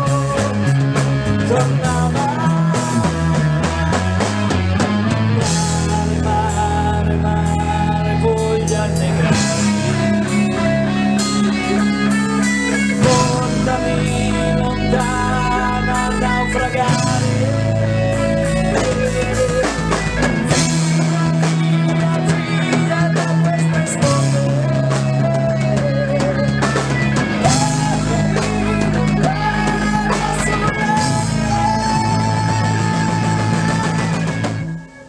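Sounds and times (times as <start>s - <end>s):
bass notes: 0.0s - 35.0s
drum kit with cymbal hits: 0.0s - 35.0s
guitar: 0.0s - 35.0s.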